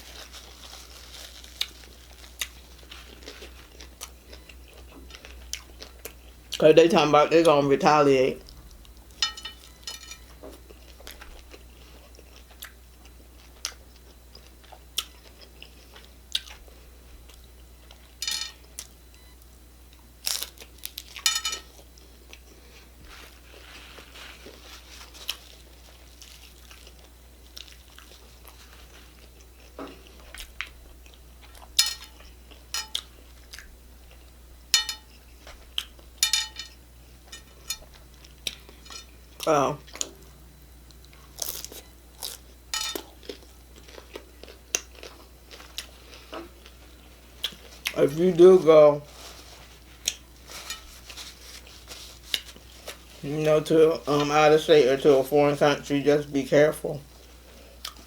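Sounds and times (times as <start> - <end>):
chewing crunchy taco shells: 0.0 - 55.9, 57.0 - 58.0.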